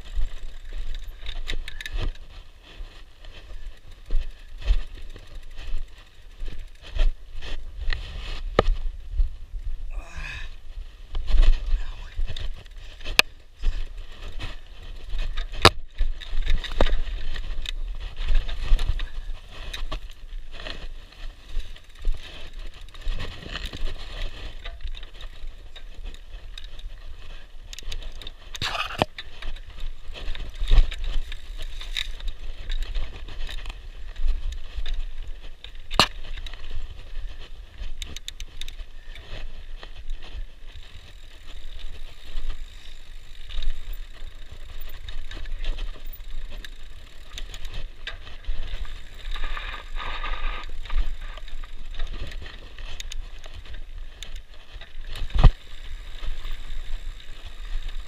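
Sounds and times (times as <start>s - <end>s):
bike clicks and rattles: 0.0s - 58.0s
tyre noise on dirt: 0.0s - 58.0s.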